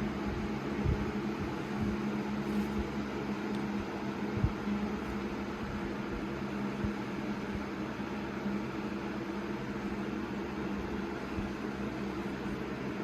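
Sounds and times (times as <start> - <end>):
box fan air rush: 0.0 - 13.0
fan motor hum: 0.0 - 13.0.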